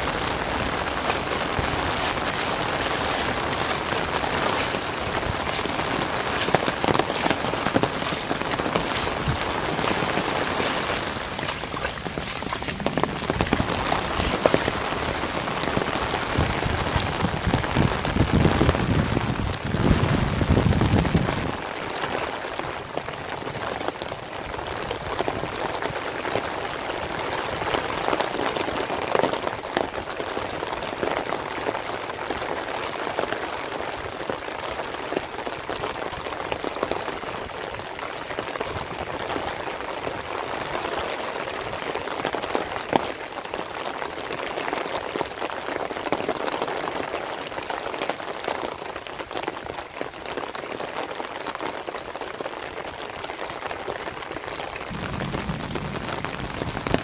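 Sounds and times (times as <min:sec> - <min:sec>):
heavy rain on water and leaves: 0:00.0 - 0:57.0.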